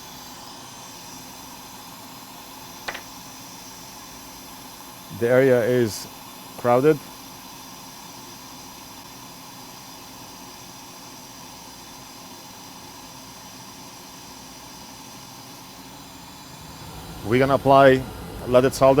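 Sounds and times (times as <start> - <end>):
hiss of moving air: 0.0 - 19.0.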